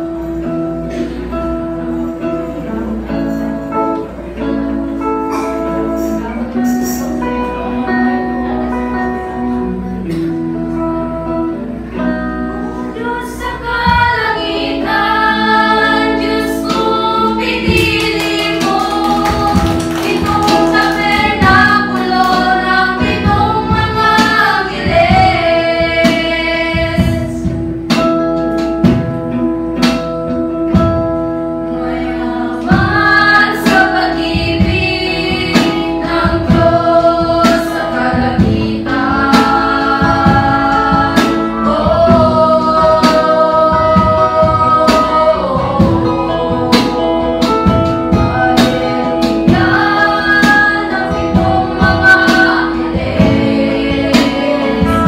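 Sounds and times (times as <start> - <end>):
guitar strumming: 0.0 - 55.0
mixed choir singing a hymn: 5.3 - 28.0, 30.8 - 55.0.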